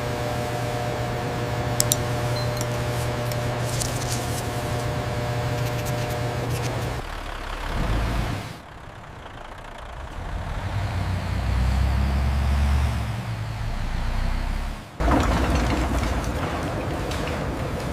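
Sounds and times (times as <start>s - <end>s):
heavy machinery rumble: 0.0s - 17.9s.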